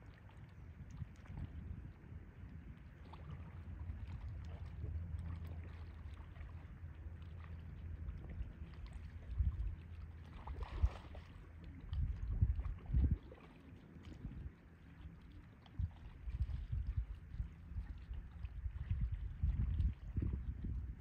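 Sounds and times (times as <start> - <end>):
water sloshing and splashing: 0.0 - 21.0
wind rumble on microphone: 0.0 - 21.0.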